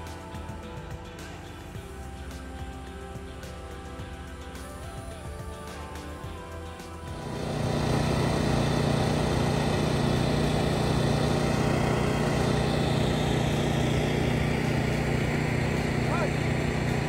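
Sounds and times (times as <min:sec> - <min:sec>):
background music: 0:00.0 - 0:17.0
engine running steadily: 0:00.0 - 0:17.0.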